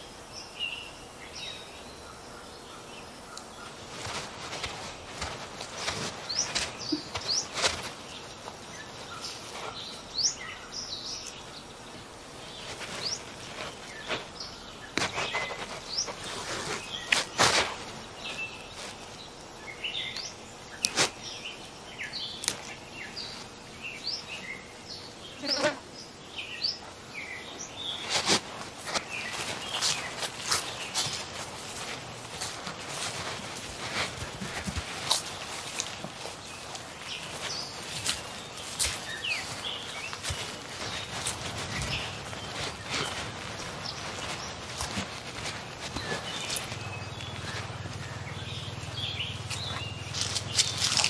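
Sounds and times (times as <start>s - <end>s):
small birds chirping: 0.0s - 51.0s
plants rustling and crackling: 3.2s - 51.0s.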